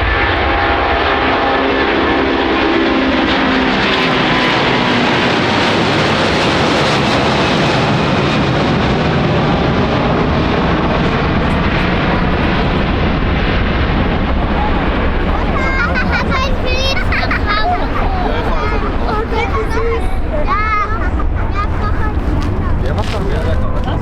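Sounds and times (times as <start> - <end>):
jet engine noise at takeoff: 0.0 - 24.0.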